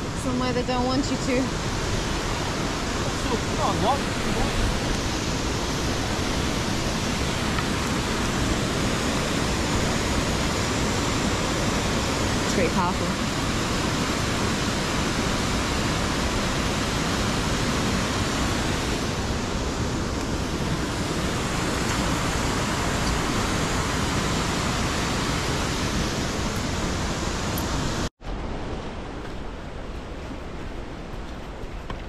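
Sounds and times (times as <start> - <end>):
waterfall rushing over rocks: 0.0 - 30.7.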